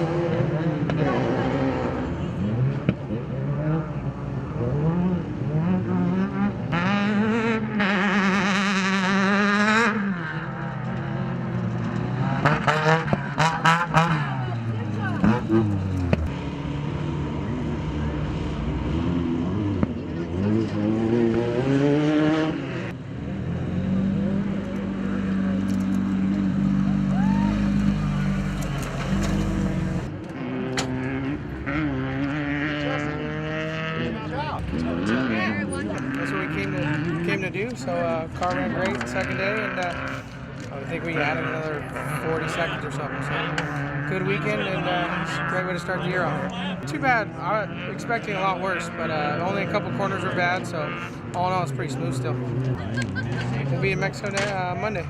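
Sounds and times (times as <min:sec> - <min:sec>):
engine revving: 0:00.0 - 0:55.0.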